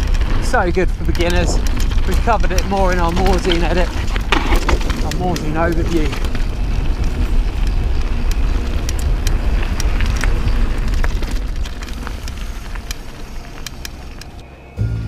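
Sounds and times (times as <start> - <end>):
wind rumble on microphone: 0.0 - 14.4
stones and bike rattling: 0.0 - 14.5
tyres crunching on gravel: 0.0 - 15.0.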